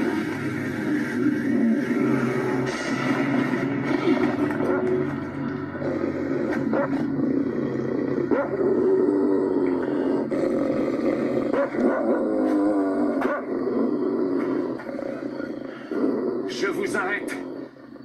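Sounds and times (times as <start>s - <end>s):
dog growling low: 0.0s - 18.0s.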